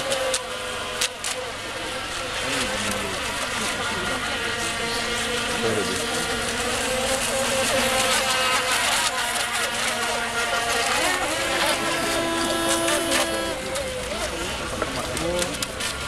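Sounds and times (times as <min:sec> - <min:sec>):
electric racing boat motors whining: 0:00.0 - 0:16.0.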